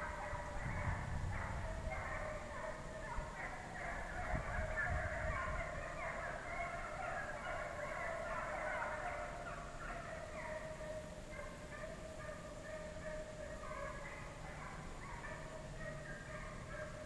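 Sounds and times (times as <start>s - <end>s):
hounds baying: 0.0s - 17.0s.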